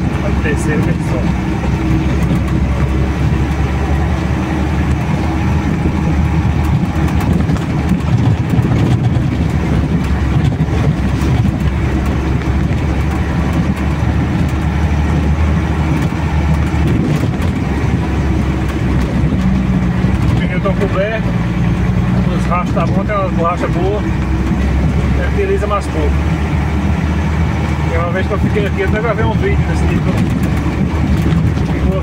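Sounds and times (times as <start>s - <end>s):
diesel truck engine running: 0.0s - 32.0s
rattles and knocks: 0.0s - 32.0s.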